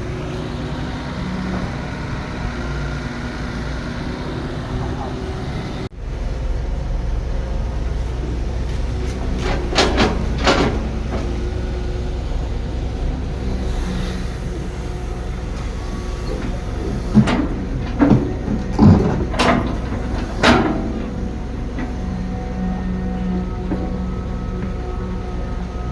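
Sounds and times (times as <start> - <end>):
heavy machinery diesel engine: 0.0 - 25.9.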